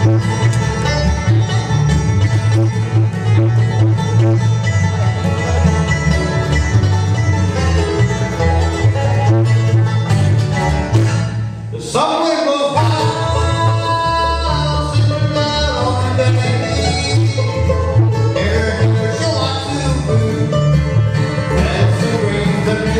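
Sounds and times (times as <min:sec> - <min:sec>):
acoustic guitar: 0:00.0 - 0:22.9
banjo: 0:00.0 - 0:22.9
mandolin: 0:00.0 - 0:22.9
upright bass: 0:00.0 - 0:22.9.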